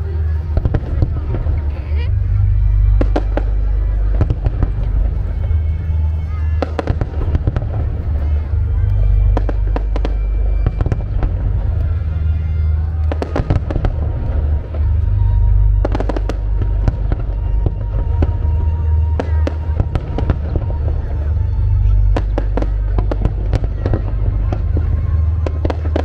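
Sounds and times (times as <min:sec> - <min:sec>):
fireworks bursting: 0:00.0 - 0:26.0
fireworks cracks and crackles: 0:00.0 - 0:26.0
music playing: 0:00.0 - 0:26.0.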